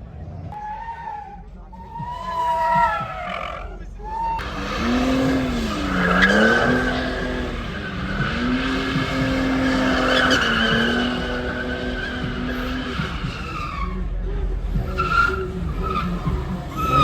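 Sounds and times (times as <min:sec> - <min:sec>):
tyres squealing: 0:00.3 - 0:17.0
car engine revving high: 0:02.0 - 0:17.0.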